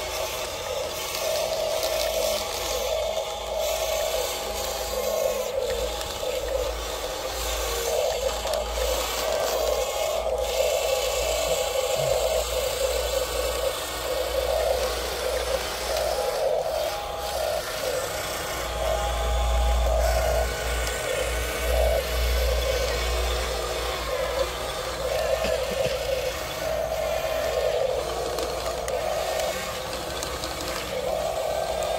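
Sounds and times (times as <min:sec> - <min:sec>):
toy gear motors whirring: 0:00.0 - 0:31.9.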